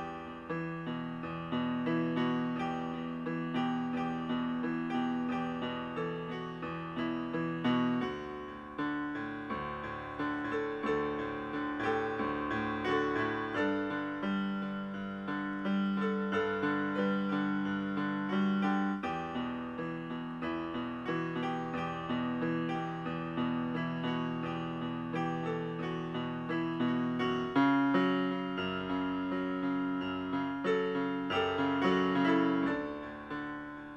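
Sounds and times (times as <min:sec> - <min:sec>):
solo piano music: 0:00.0 - 0:33.9.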